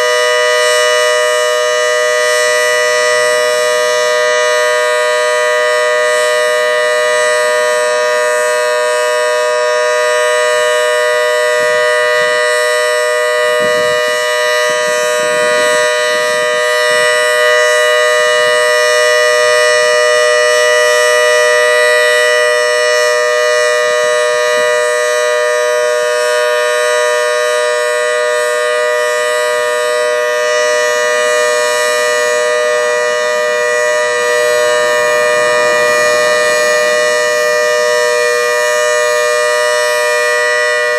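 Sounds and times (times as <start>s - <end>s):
dual-tone warning siren: 0.0s - 40.9s.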